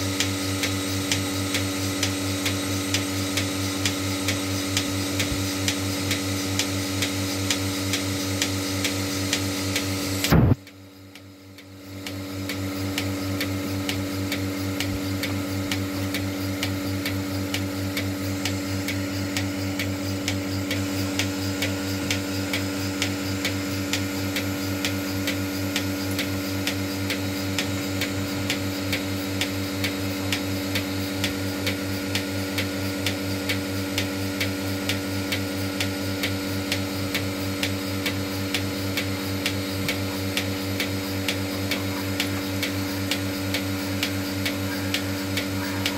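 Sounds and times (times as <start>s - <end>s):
vacuum pump hum: 0.0s - 45.9s.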